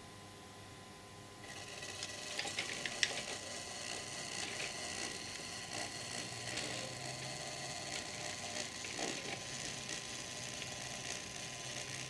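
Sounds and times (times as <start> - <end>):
model train motor whirring: 1.4 - 12.0.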